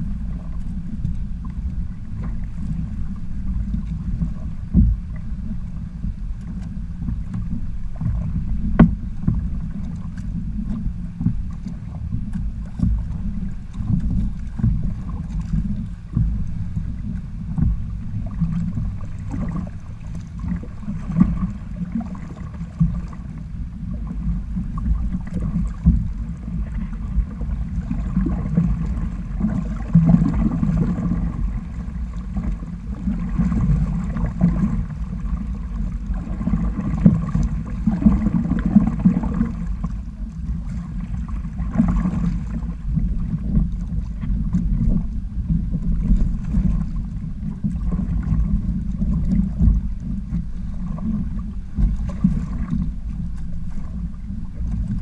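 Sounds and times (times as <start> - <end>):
water slapping against hull: 0.0 - 55.0.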